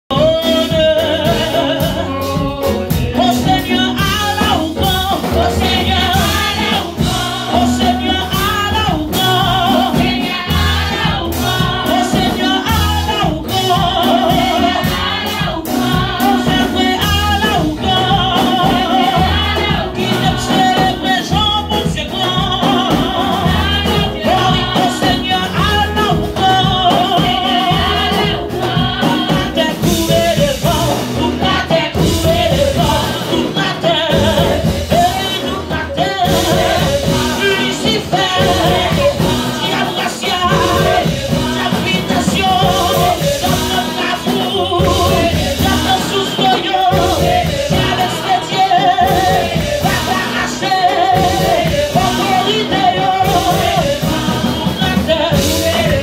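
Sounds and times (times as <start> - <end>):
bass: 0.0 - 56.0
amplified band accompaniment: 0.1 - 56.0
steady drum beat: 0.1 - 56.0
woman singing with vibrato: 0.1 - 56.0.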